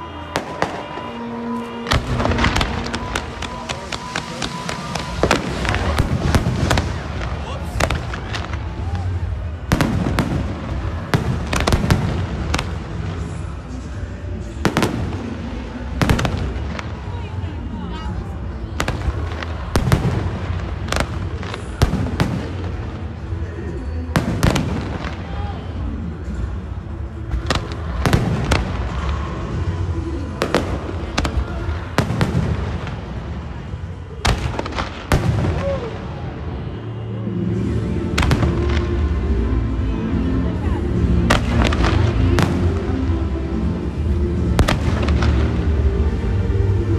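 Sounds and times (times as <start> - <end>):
fireworks bangs: 0.0 - 17.4, 18.6 - 26.4, 27.2 - 36.8, 37.6 - 40.2, 41.0 - 46.4
low rumble of distant fireworks: 0.0 - 46.9.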